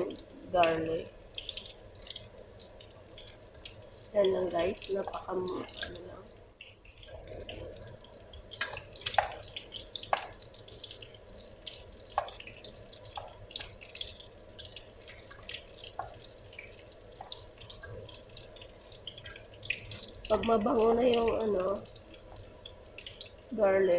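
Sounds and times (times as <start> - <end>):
onion and garlic sizzling in oil: 0.0 - 23.9.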